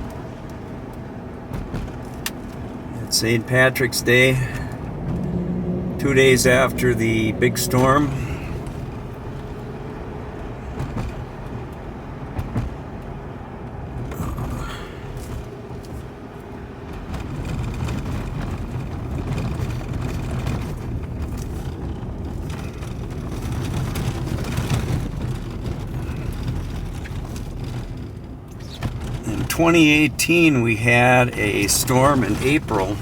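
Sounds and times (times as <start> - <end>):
car tyres and engine rumbling: 0.0 - 33.0.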